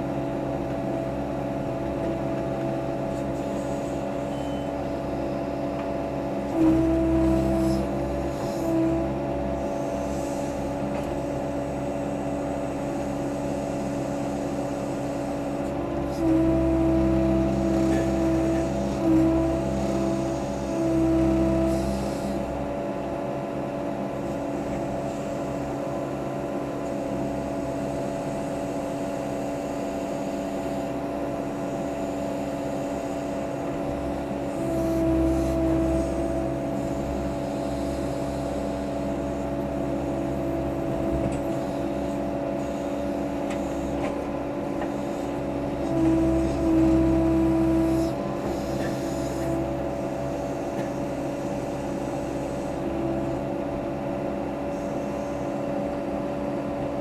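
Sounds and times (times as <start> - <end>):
backhoe engine running: 0.0 - 57.0.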